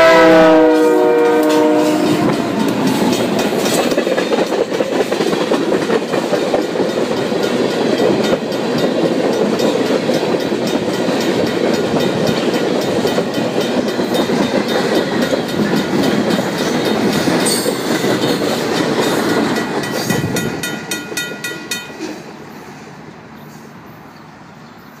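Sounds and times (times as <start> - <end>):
crossing bell ringing: 0.0 - 22.4
train wheels rolling on rails: 0.0 - 25.0.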